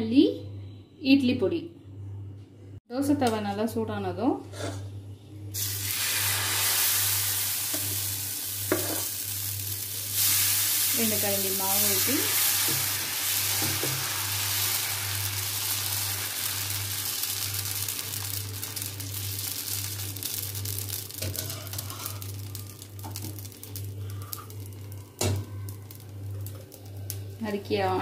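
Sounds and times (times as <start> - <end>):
batter sizzling on a hot pan: 5.5 - 28.0.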